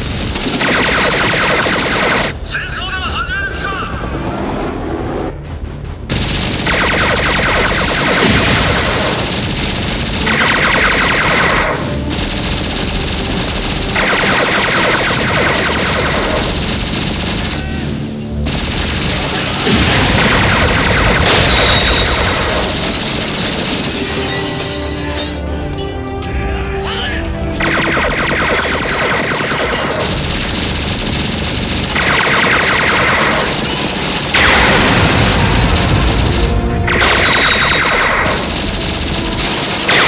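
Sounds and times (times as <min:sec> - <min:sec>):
rapid-fire gun sound effects: 0:00.0 - 0:02.4, 0:06.1 - 0:24.5, 0:27.6 - 0:40.0.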